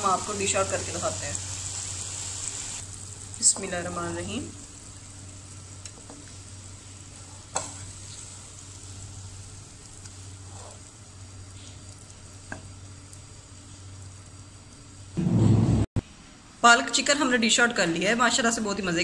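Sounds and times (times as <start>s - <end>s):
pan sizzling: 0.0s - 15.9s.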